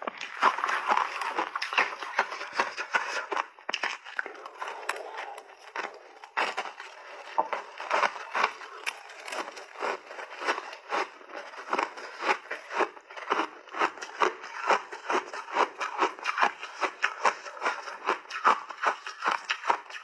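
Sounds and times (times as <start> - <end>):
crunching frozen berries and ice: 0.0 - 20.0.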